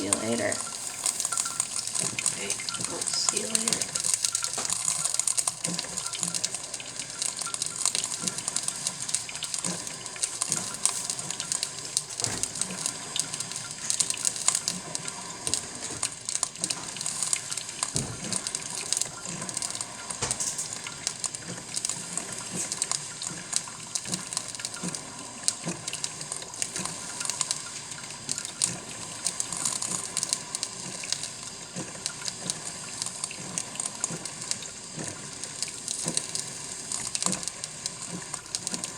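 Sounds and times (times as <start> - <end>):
coffee maker brewing: 0.0 - 38.9
water boiling and sputtering: 0.0 - 38.9.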